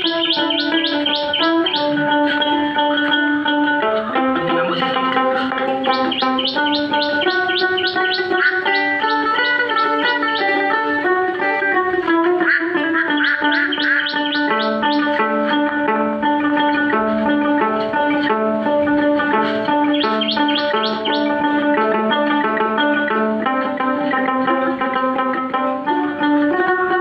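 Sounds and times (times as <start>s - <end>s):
plucked lute playing fast: 0.0s - 27.0s.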